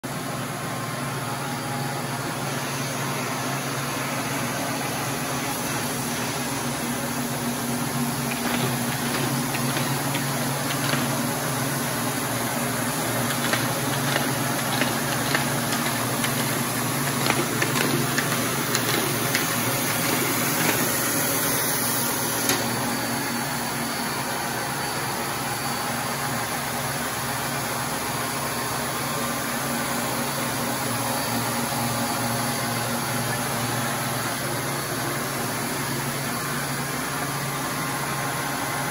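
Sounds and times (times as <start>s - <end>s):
machine motor and pump humming: 0.1s - 38.9s.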